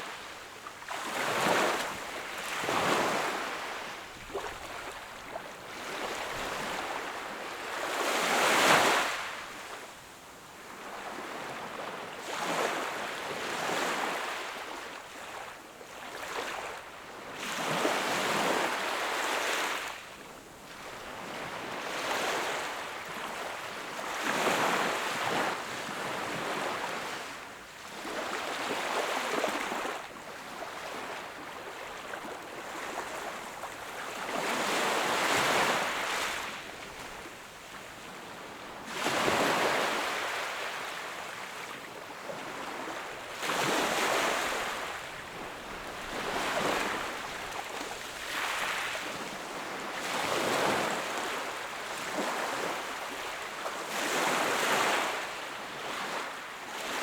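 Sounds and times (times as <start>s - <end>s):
small waves breaking on shore: 0.0s - 10.0s, 10.6s - 57.0s.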